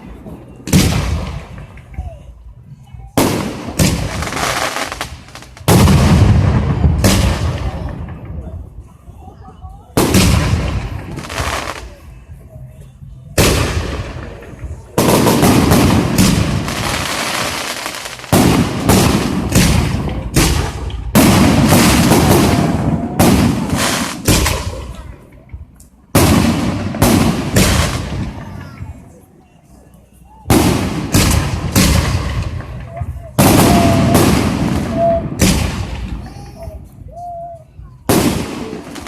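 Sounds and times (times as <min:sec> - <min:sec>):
fireworks bangs: 0:00.0 - 0:02.0, 0:03.2 - 0:08.8, 0:10.0 - 0:11.9, 0:13.4 - 0:25.1, 0:26.1 - 0:29.1, 0:30.5 - 0:36.8, 0:38.0 - 0:39.0.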